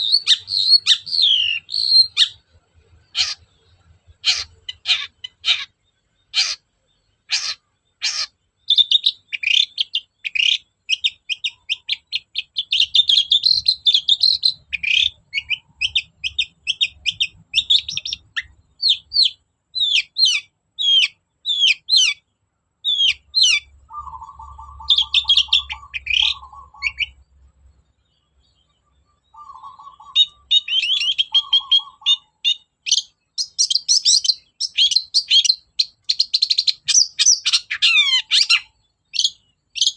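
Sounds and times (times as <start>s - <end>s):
shrike singing: 0.0s - 27.2s, 28.4s - 39.9s
low rattling bird trill: 0.0s - 39.9s.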